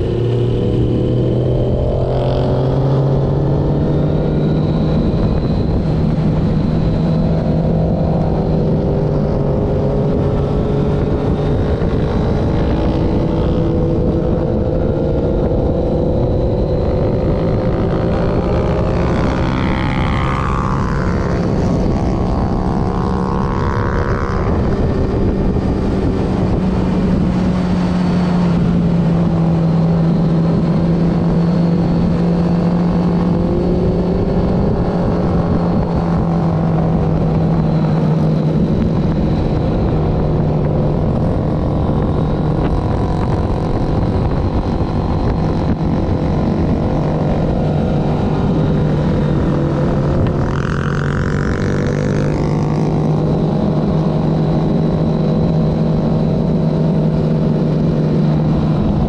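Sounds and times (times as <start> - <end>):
motorcycle engine running hard: 0.0 - 59.0
wind rushing: 0.0 - 59.0.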